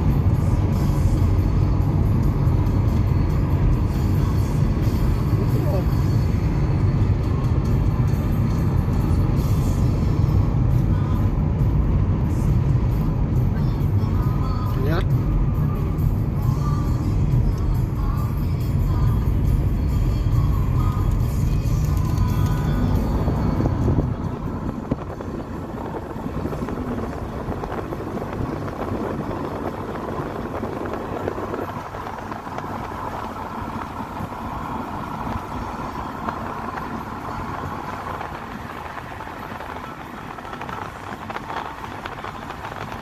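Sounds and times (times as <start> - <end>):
road and wind noise inside car: 0.0 - 43.0.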